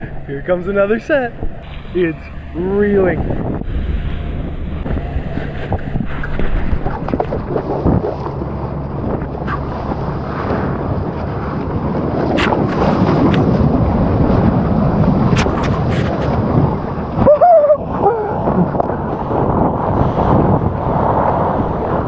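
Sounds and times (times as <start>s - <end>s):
breaking water rushing: 0.0s - 22.0s
wind buffeting microphone: 0.0s - 22.0s.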